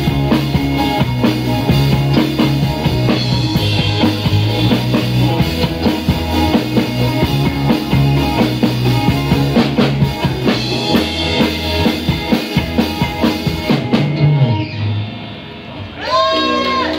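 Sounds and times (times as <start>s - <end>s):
bass guitar line: 0.0s - 16.9s
electric guitar: 0.0s - 16.9s.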